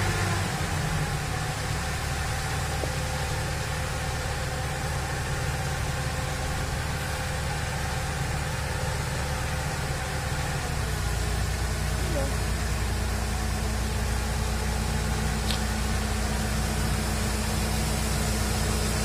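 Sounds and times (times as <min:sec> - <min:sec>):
combine harvester running: 0:00.0 - 0:19.0
tractor engine: 0:00.0 - 0:19.0.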